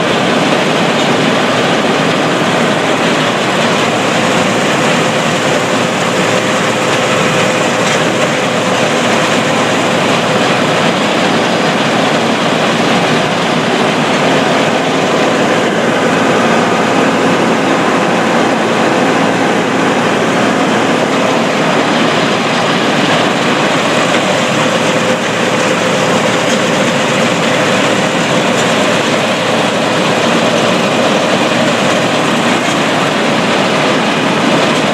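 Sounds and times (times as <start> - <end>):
harvest machinery drone: 0.0 - 34.9.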